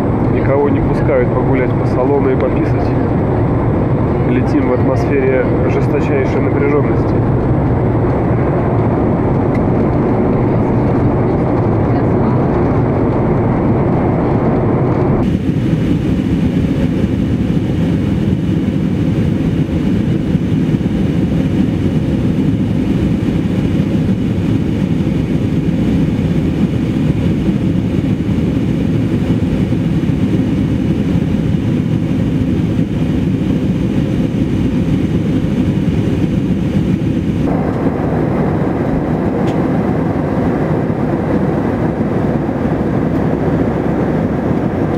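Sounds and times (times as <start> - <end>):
airliner cabin engine noise: 0.0 - 44.9.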